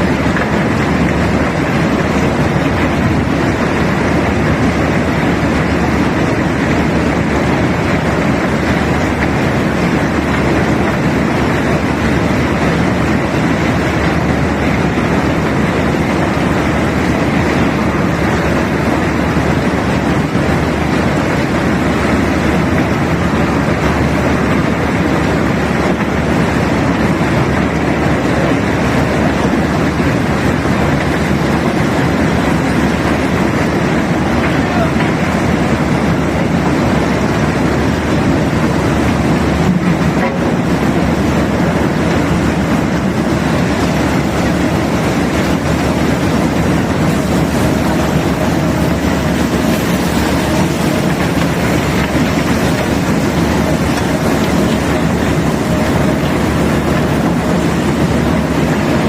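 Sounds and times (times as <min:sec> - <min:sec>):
unloading machinery running: 0:00.0 - 0:59.0.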